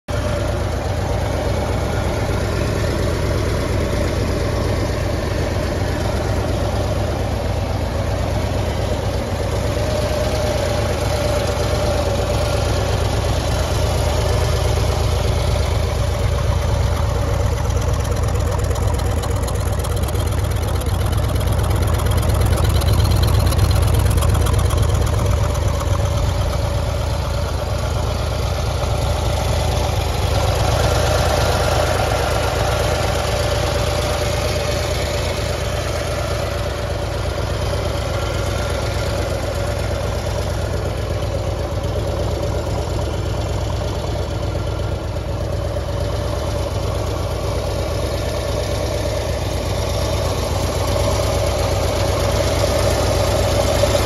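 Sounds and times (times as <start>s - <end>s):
motorcycle engine idling: 0.1s - 54.0s.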